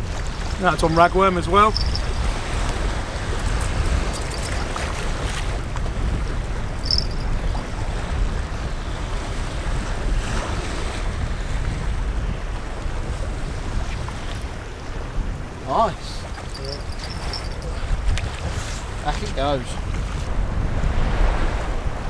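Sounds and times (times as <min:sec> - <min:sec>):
waves against sea wall: 0:00.0 - 0:22.0
wind buffeting microphone: 0:00.0 - 0:22.0.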